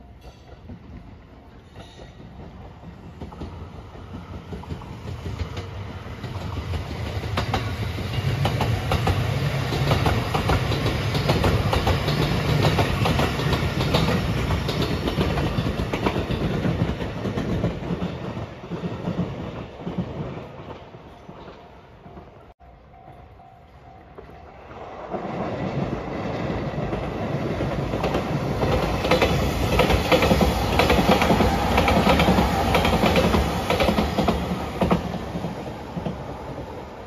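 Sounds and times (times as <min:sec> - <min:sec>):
electric train passing: 0:00.0 - 0:37.0
wheels clicking over rail joints: 0:00.3 - 0:22.3, 0:25.1 - 0:36.4.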